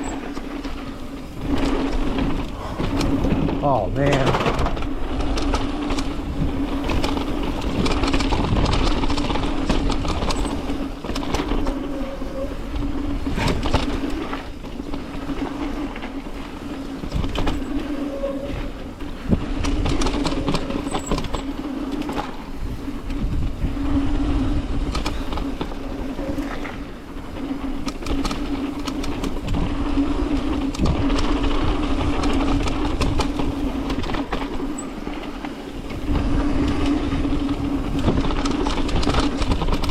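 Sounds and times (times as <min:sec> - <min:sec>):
bike knocks and rattles: 0:00.0 - 0:39.9
constant hum: 0:00.0 - 0:39.9
mountain bike tyre rushing: 0:00.0 - 0:39.9.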